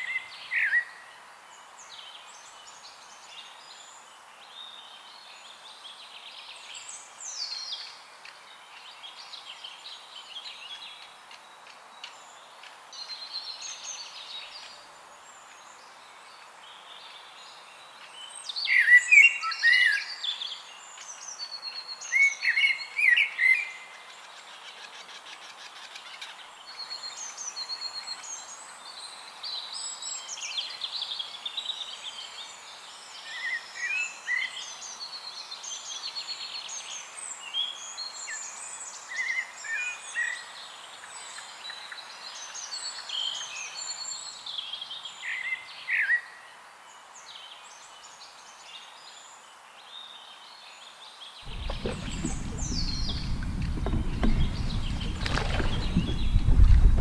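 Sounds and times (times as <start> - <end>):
faint steady hiss: 0.0 - 57.0
songbirds singing and chirping: 0.0 - 57.0.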